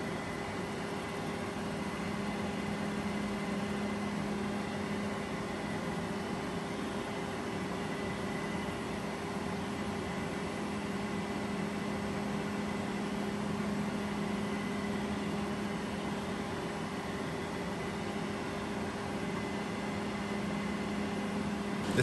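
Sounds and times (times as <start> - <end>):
machine hum with high whine: 0.0 - 22.0.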